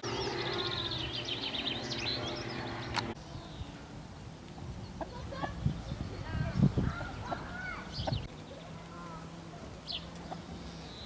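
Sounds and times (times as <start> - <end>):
birds chirping and trilling: 0.0 - 11.0
steady low hum: 0.0 - 11.0.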